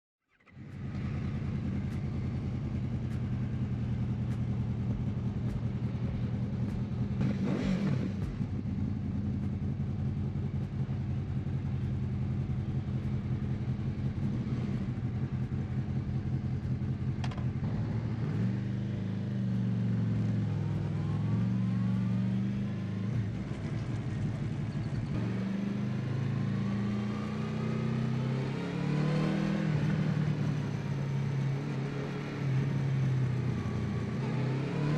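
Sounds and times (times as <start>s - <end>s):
motorcycle engine revving: 0.4s - 34.9s.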